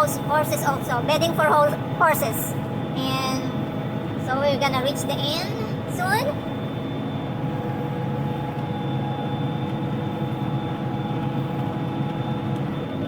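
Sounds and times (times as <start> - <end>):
combine harvester drone: 0.0 - 13.0
machine whining tones: 0.0 - 13.0.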